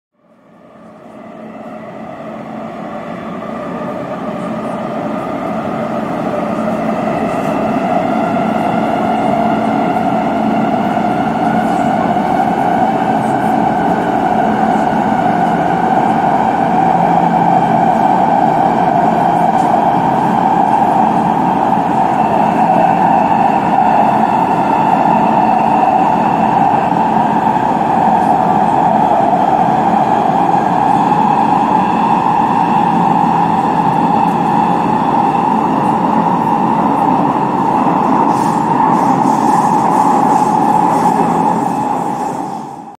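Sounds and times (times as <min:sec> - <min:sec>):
metro train running with whine: 0:00.2 - 0:42.9.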